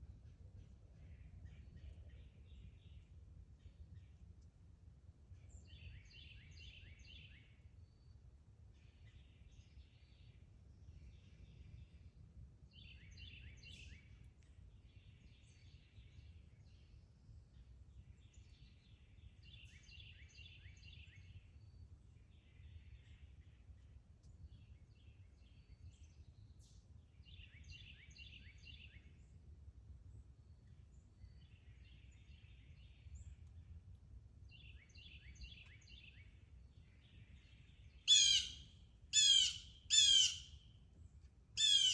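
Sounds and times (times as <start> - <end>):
songbird singing: 0.1 - 4.6, 5.3 - 23.6, 24.3 - 29.3, 30.4 - 33.7, 34.4 - 41.9.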